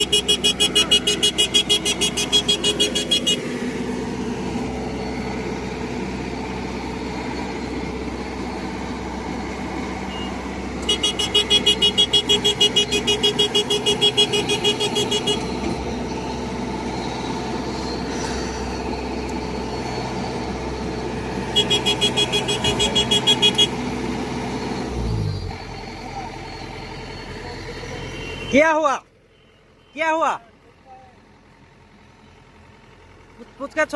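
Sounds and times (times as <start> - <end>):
combine harvester engine drone: 0.0 - 33.9.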